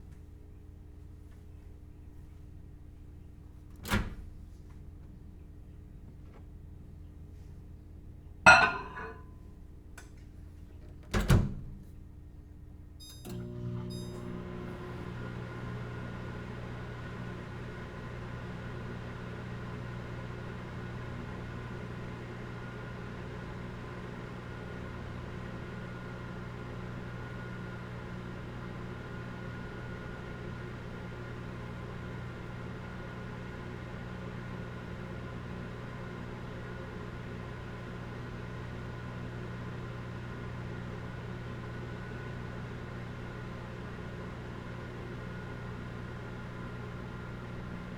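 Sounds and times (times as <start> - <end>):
microwave electrical hum: 0.0 - 47.9.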